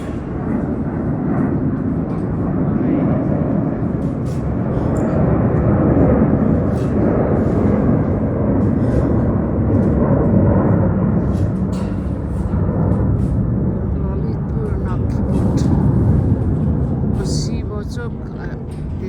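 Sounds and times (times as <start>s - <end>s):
construction machinery rumbling: 0.0s - 19.0s.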